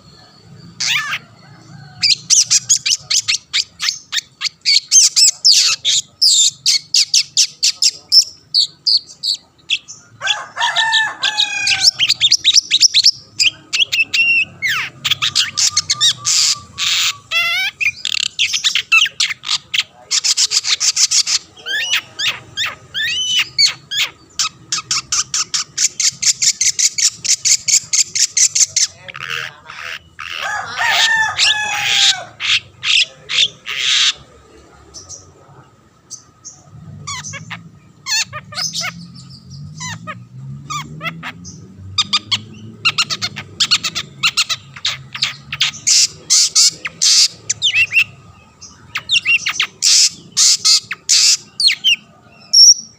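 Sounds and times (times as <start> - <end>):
shrike singing trills and whistles: 0.0 - 10.1, 11.2 - 34.3, 36.1 - 52.9.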